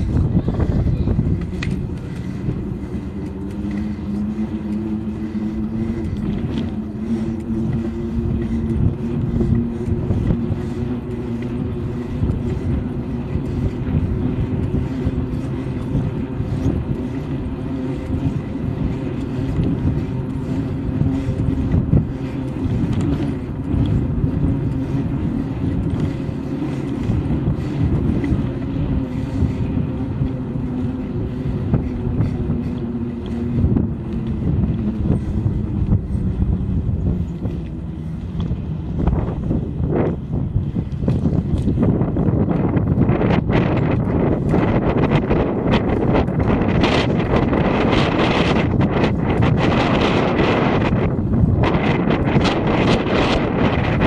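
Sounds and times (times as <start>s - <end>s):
bike rolling noise: 0.0s - 54.0s
wind buffeting microphone: 0.0s - 54.0s.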